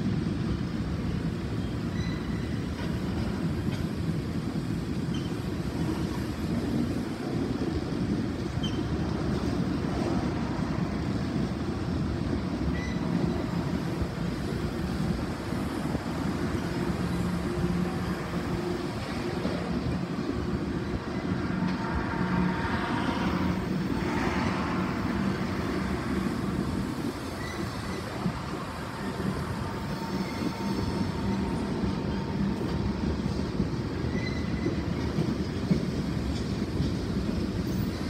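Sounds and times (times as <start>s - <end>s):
freight train rumbling on rails: 0.0s - 38.0s.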